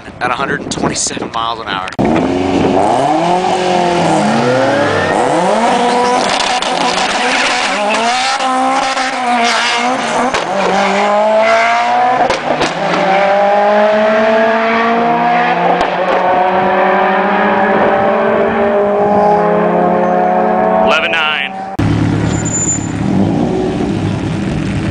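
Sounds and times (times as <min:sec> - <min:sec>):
car engines revving: 0:01.9 - 0:24.9.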